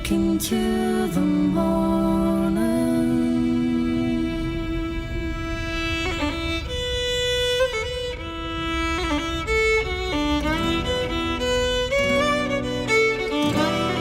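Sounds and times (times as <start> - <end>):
ballad melody of held sliding notes: 0.0 - 14.0
low steady accompaniment: 0.0 - 14.0.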